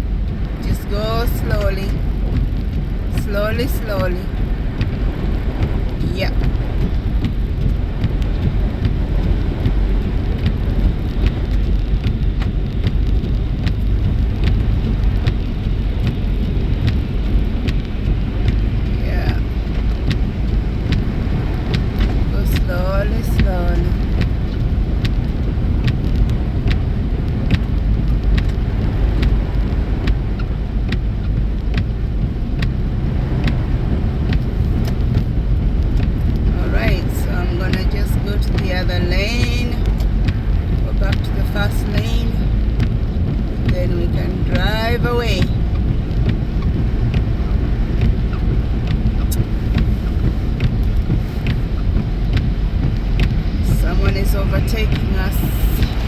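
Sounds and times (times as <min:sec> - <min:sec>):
car engine and tyre rumble: 0:00.0 - 0:56.0
light ticks: 0:00.0 - 0:56.0.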